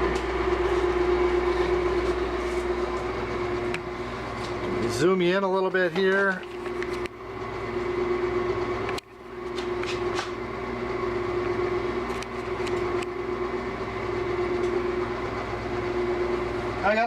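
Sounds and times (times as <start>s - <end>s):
wood lathe motor humming: 0.0s - 17.0s.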